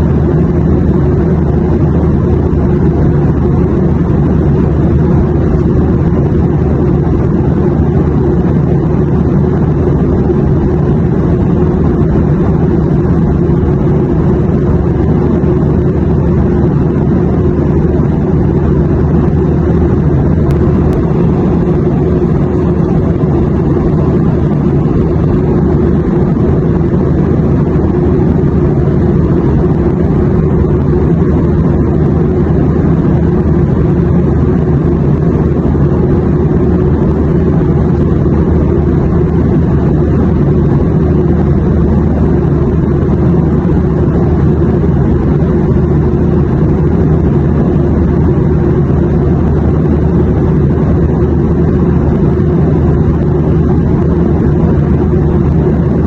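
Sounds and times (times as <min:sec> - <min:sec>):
airplane cabin drone: 0:00.0 - 0:56.0.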